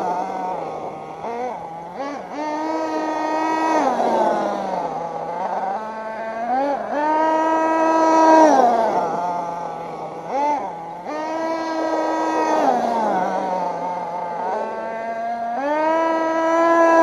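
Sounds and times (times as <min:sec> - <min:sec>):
model engine revving: 0:00.0 - 0:17.0.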